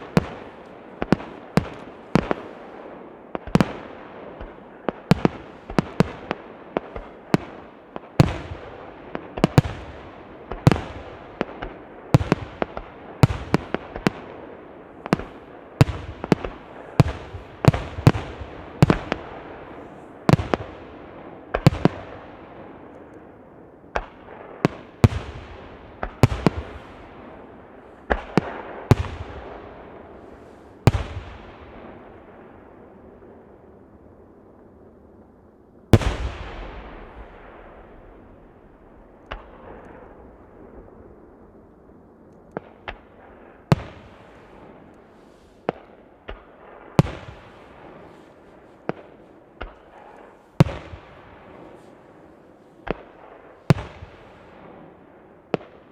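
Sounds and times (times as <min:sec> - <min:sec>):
fireworks booming: 0:00.0 - 0:22.8, 0:24.0 - 0:33.0, 0:35.9 - 0:40.9, 0:42.6 - 0:55.9
rumbling echoes of fireworks: 0:00.0 - 0:55.9.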